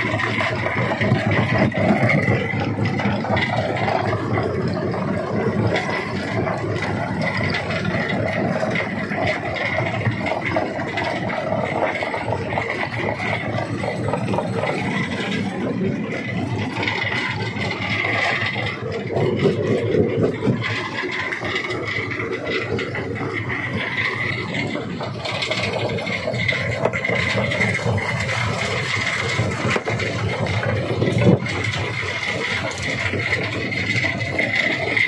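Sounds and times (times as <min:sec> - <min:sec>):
stone crusher rattling: 0:00.0 - 0:35.0.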